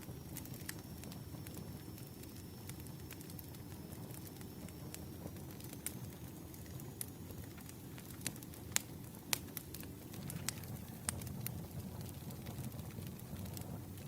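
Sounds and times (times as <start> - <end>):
campfire pops and snaps: 0.0 - 14.0
rumble of burning fire: 0.0 - 14.0.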